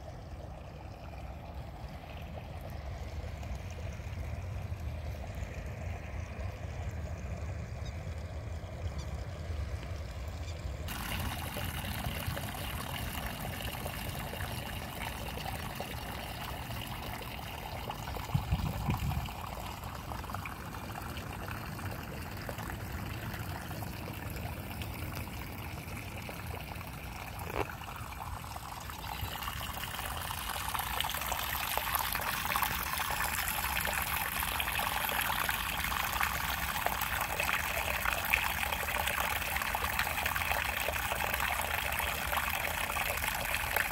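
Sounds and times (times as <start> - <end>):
water trickling: 0.0 - 43.9.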